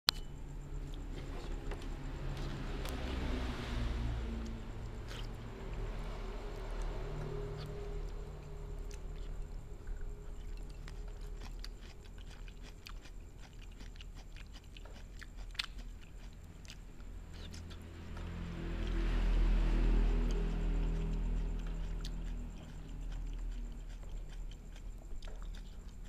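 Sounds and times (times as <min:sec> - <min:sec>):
low steady hum: 0:00.1 - 0:26.0
person chewing cucumber: 0:00.1 - 0:26.0.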